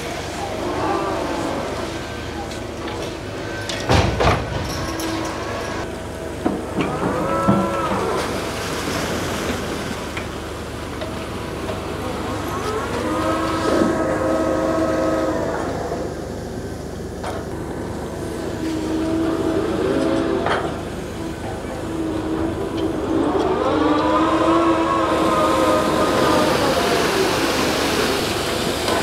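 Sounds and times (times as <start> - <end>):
steady engine drone: 0.0 - 29.0.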